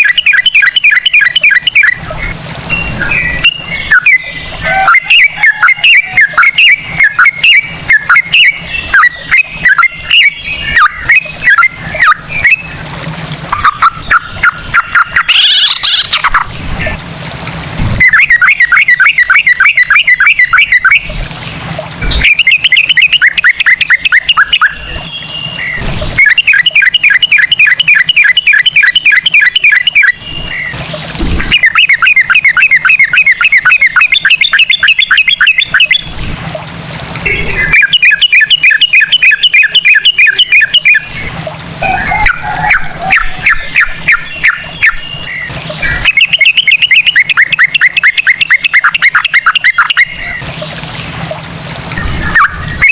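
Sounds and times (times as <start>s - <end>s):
bulbul singing fast sharp notes: 0.0s - 17.0s, 17.8s - 36.6s, 37.2s - 51.4s.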